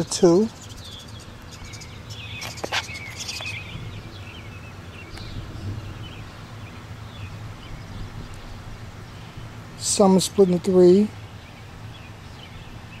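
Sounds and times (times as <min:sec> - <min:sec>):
birds chirping: 0:00.0 - 0:13.0
low outdoor hum: 0:00.0 - 0:13.0.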